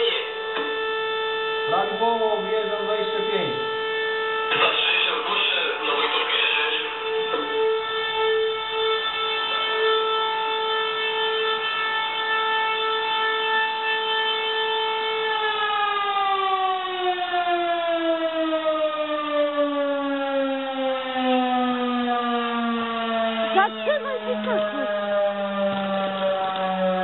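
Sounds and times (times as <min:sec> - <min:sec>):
alarm siren wailing: 0:00.0 - 0:27.0.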